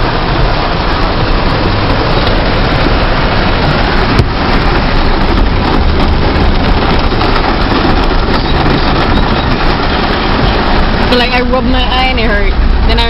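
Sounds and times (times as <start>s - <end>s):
car engine rumble: 0.0s - 13.0s
heavy rain and rushing water: 0.0s - 13.0s.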